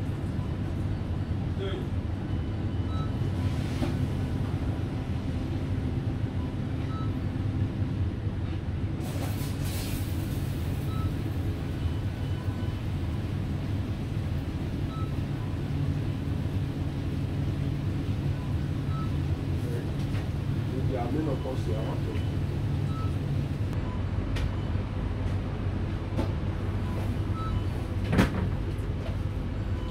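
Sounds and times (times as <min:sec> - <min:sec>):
dishwasher rumble and hum: 0:03.8 - 0:09.6, 0:10.8 - 0:29.9.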